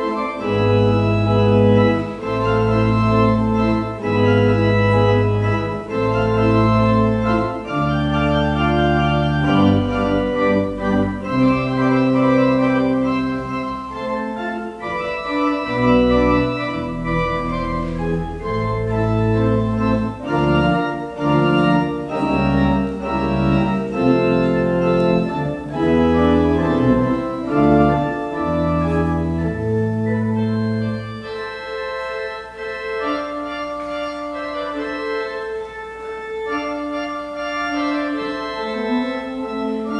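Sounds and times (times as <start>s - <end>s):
church organ playing chords: 0.0s - 39.9s.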